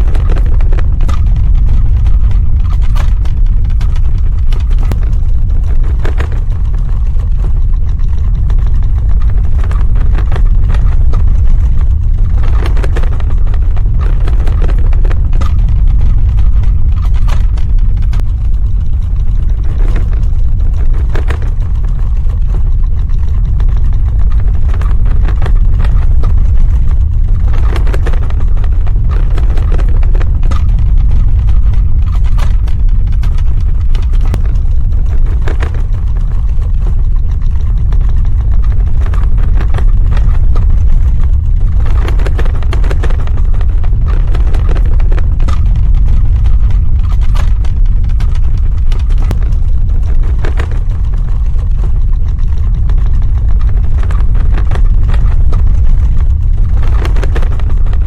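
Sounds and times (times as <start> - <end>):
crackling and rattling: 0.0 - 58.0
deep rumble: 0.0 - 58.0.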